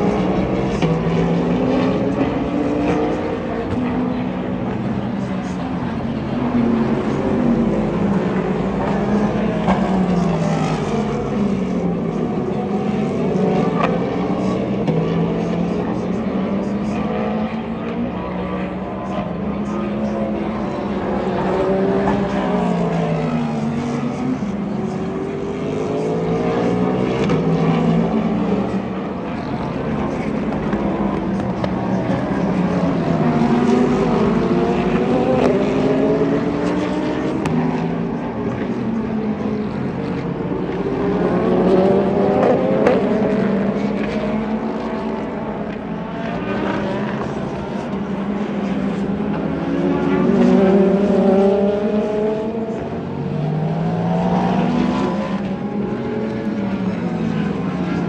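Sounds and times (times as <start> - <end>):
race cars passing at speed: 0.0 - 58.0.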